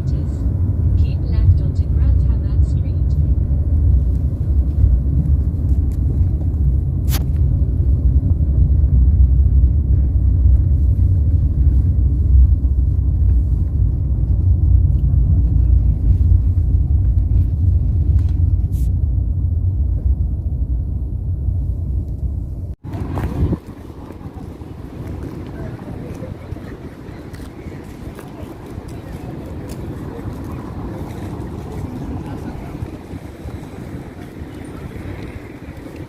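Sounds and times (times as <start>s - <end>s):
train running low rumble: 0.0s - 36.0s.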